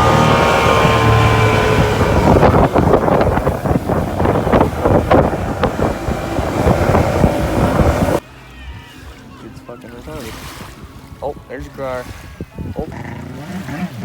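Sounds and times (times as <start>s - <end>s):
jet ski engine: 0.0s - 14.0s
water and wind rush on microphone: 0.0s - 14.0s.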